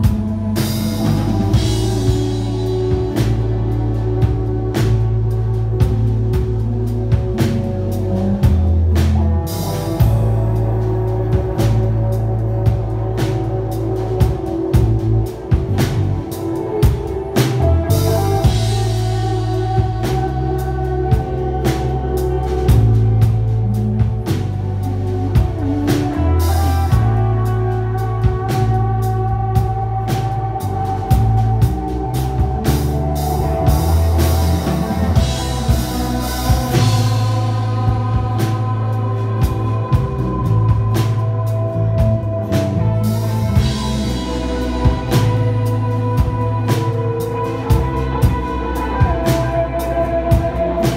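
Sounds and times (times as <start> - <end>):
acoustic and electric guitars: 0.0 - 50.9
drum kit steady beat: 0.0 - 50.9
electric bass sustained notes: 0.0 - 50.9.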